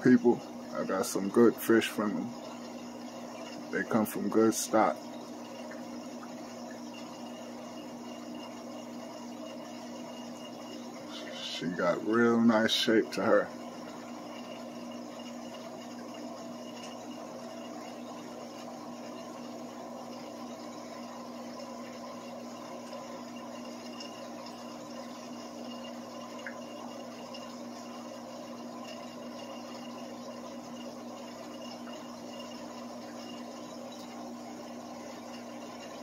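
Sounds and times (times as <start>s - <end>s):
low filter hum: 0.0s - 36.0s.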